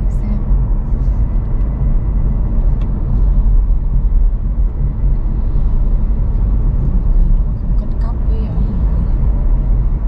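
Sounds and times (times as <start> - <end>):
tyre and road noise in car: 0.0 - 10.0.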